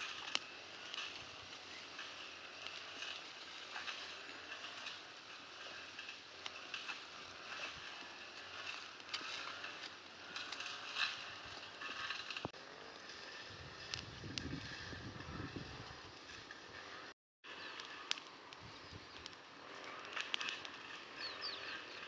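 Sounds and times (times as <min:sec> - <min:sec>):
dry sticks and leaves rustling: 0:00.0 - 0:22.0
wood fire crackling: 0:00.0 - 0:22.0.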